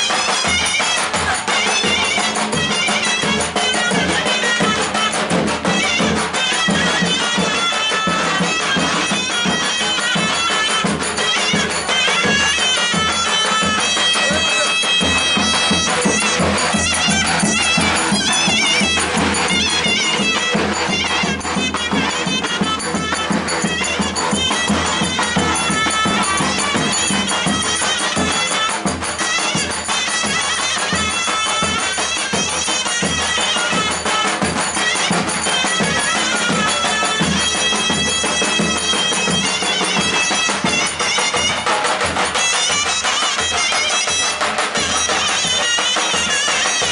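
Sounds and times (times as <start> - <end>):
drum beats: 0.0 - 46.9
shrill reedy wind melody: 0.4 - 45.4.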